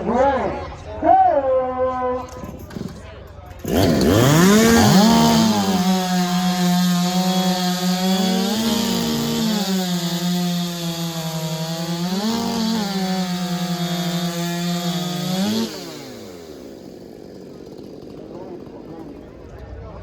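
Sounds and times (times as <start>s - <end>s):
chainsaw cutting a log: 2.5s - 19.5s.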